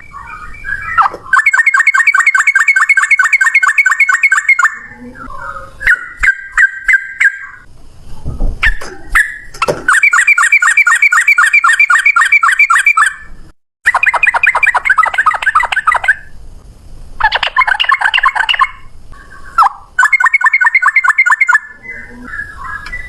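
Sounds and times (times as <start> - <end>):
bird singing rapid repeated notes: 0.0 - 7.7, 8.6 - 16.4, 17.2 - 23.0.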